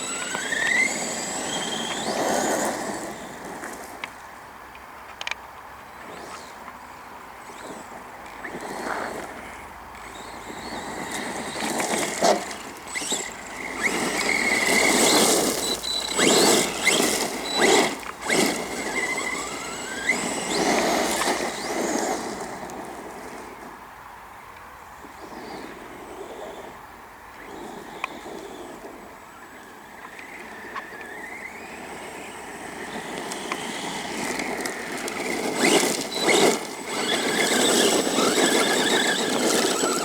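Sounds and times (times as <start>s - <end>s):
rc truck motor whining: 0.0s - 23.8s, 25.0s - 40.0s.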